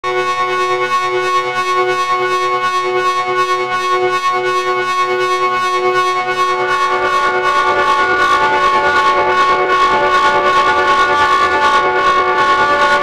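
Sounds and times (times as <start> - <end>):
pulsing electronic synth chord: 0.1 - 13.0.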